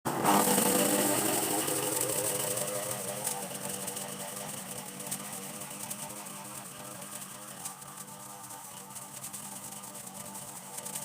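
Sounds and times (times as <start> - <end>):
chainsaw cutting: 0.1 - 11.0
chainsaw engine running: 0.1 - 11.0.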